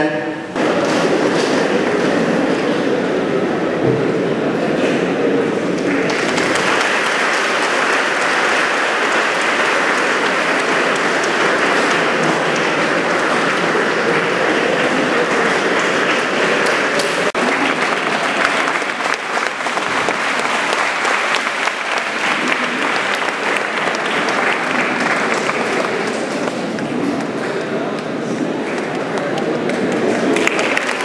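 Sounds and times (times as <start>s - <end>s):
audience clapping: 0.6s - 2.6s, 5.5s - 31.0s.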